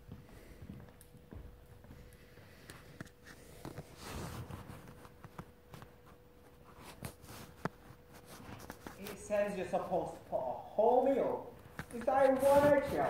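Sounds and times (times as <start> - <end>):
faint hum: 0.0 - 13.0
shuffling: 0.1 - 13.0.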